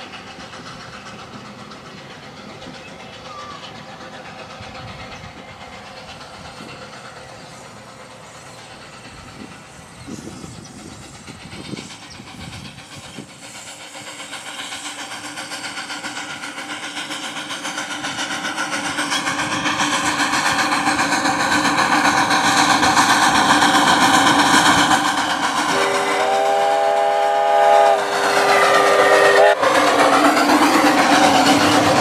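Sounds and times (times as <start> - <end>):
steam locomotive exhaust beats: 0.0 - 32.0.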